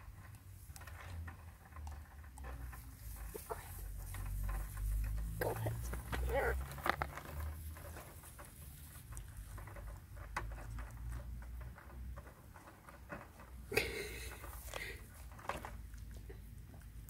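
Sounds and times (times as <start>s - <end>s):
goats crunching carrots: 0.1s - 17.0s.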